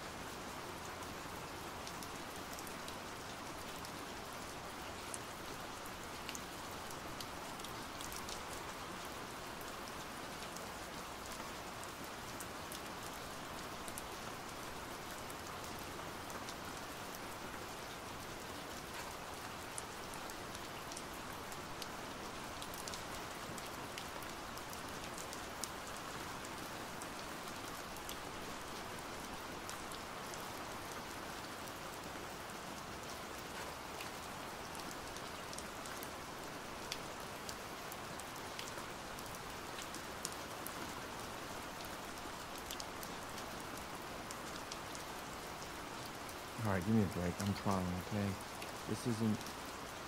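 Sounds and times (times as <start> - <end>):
pouring rain hiss: 0.0 - 50.0.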